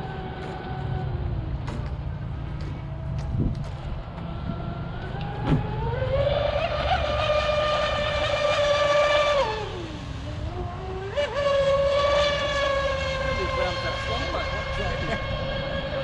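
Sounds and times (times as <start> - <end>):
electric boat motor whining: 0.0 - 16.0
low steady rumble: 0.0 - 16.0.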